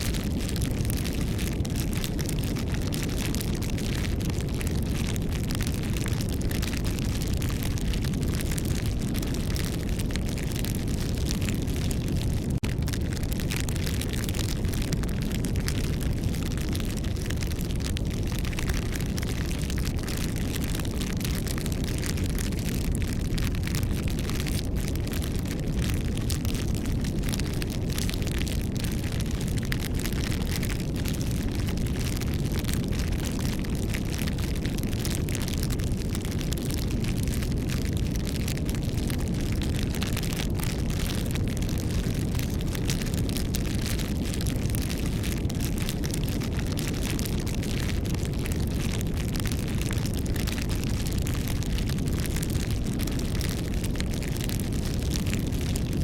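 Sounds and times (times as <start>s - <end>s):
campfire crackles and pops: 0.0s - 56.0s
low rumble of flames: 0.0s - 56.0s.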